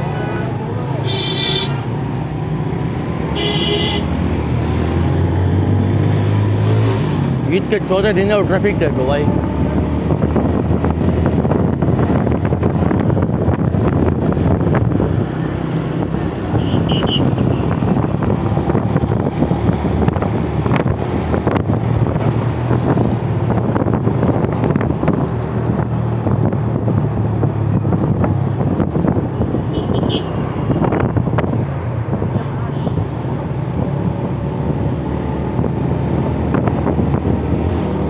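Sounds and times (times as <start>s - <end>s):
wind rushing over microphone: 4.1s - 38.0s.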